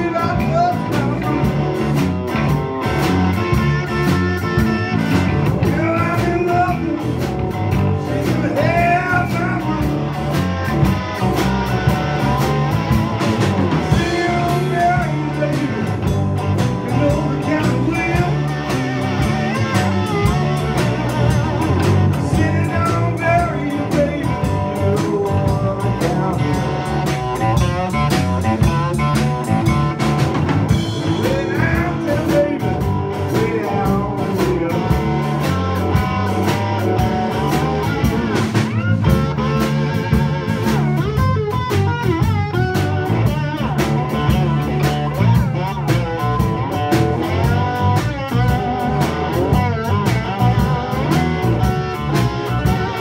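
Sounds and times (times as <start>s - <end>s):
bass line: 0.0s - 53.0s
drum kit: 0.0s - 53.0s
electric guitar: 0.0s - 53.0s.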